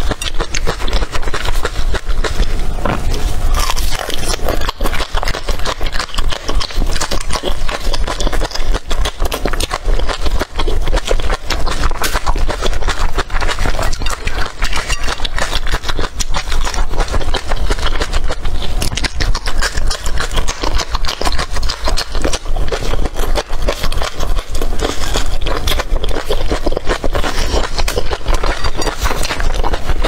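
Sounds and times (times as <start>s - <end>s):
crunching and chewing peppers: 0.0s - 30.0s.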